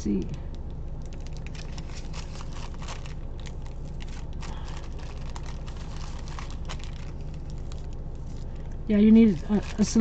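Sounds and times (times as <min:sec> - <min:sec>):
low hum: 0:00.0 - 0:10.0
wax paper crinkling: 0:00.5 - 0:10.0.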